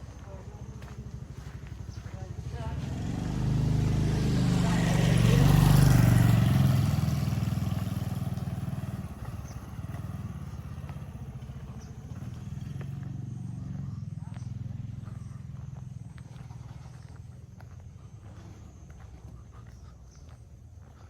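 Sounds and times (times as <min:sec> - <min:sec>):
vehicle passing by: 0:00.2 - 0:21.0.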